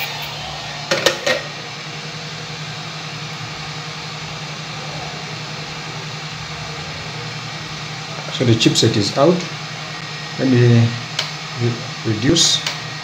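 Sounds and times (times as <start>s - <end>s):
hot air blower rushing hiss: 0.0s - 13.0s
low motor hum: 0.0s - 13.0s.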